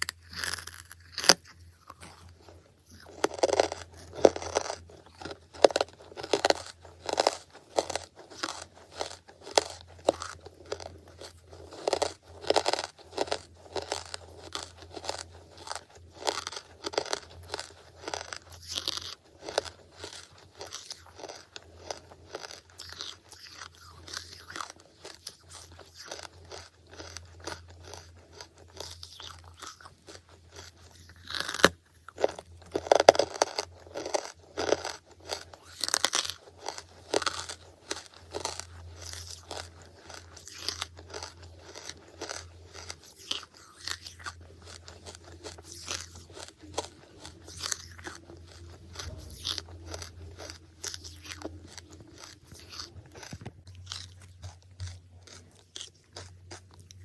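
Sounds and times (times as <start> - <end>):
brittle crunches of chewing charcoal: 0.0 - 57.0.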